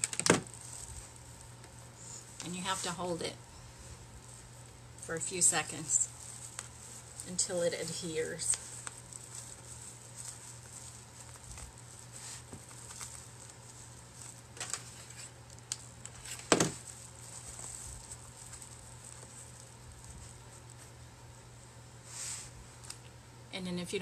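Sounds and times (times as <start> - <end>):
fabric and plastic bags crinkling: 0.0 - 21.5
steady low hum: 0.0 - 24.0.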